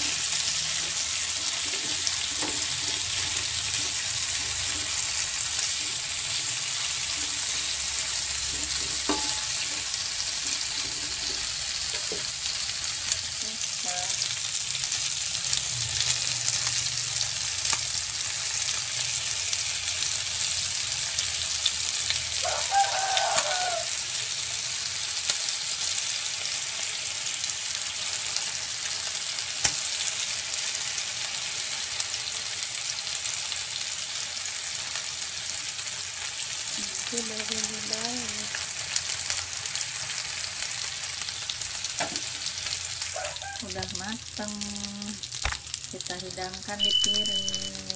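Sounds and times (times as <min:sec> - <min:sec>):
chicken sizzling in grill pan: 0:00.0 - 0:47.9.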